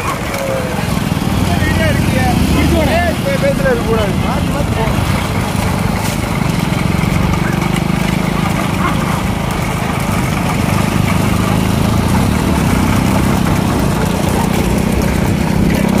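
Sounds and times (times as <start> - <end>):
broad rushing noise: 0.0 - 16.0
small engine running steadily: 0.0 - 16.0.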